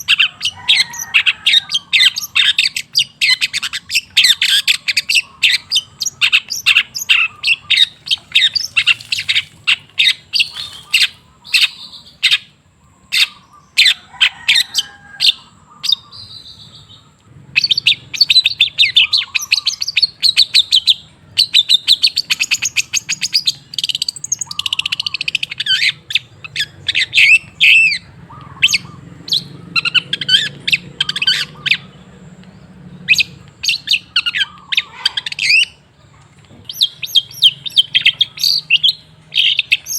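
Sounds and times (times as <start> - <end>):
bird singing harsh chattering notes: 0.0 - 14.0, 15.7 - 39.9.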